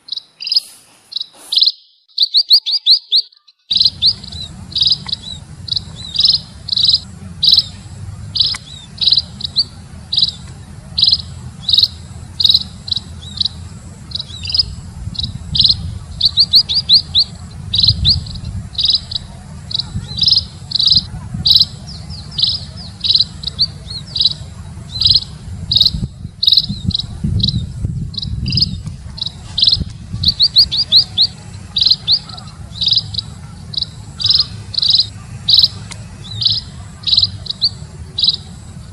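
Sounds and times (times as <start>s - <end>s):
finch chirping: 0.0s - 38.7s
rapid bird trilling: 0.0s - 38.9s
steady low hum: 3.7s - 38.9s.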